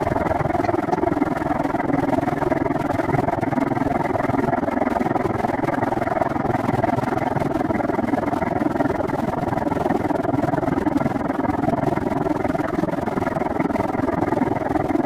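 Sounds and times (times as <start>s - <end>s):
bicycle rolling rumble and rattle: 0.0s - 15.0s.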